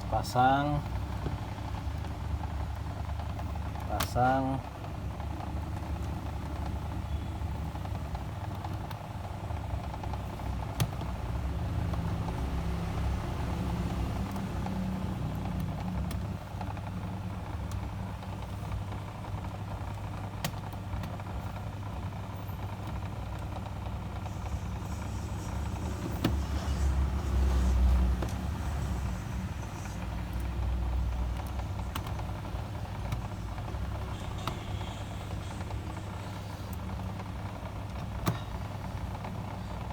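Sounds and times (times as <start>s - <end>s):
low rumble of background noise: 0.0s - 39.9s.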